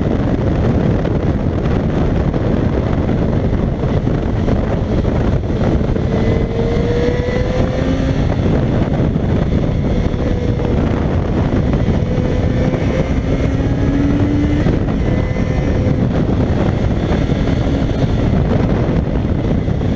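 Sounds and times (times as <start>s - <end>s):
motorcycle engine running: 0.0s - 19.9s
wind noise on microphone: 0.0s - 19.9s.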